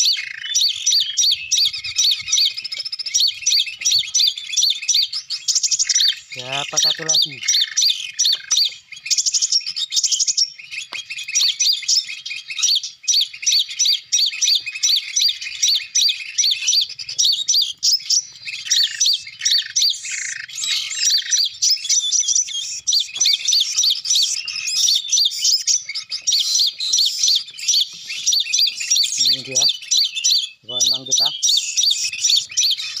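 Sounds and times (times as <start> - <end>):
bird chirps from speaker: 0.0 - 33.0.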